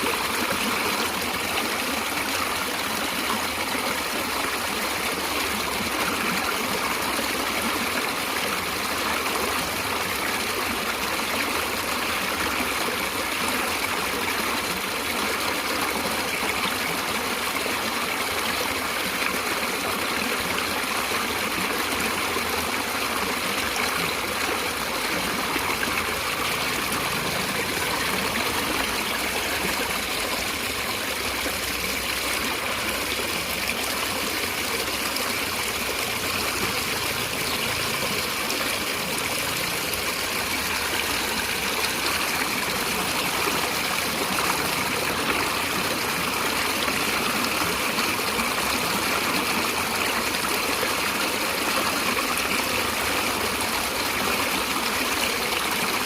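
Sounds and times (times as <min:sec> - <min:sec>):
stream running over stones: 0:00.0 - 0:56.0.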